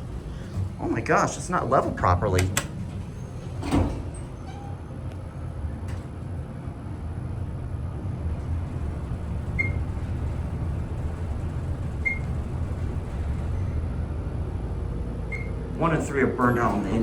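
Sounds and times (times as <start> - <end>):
elevator car rumbling: 0.0 - 17.0.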